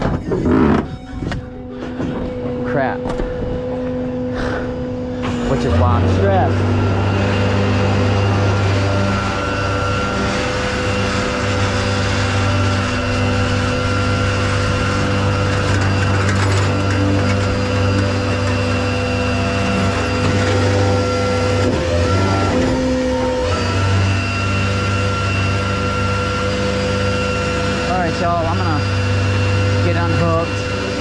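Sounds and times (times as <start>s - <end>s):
hydraulic whine: 0.0s - 31.0s
truck engine drone: 0.0s - 31.0s.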